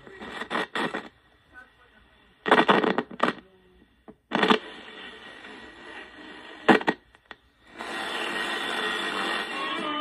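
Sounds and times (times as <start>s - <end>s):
radio static and hiss: 0.0s - 10.0s.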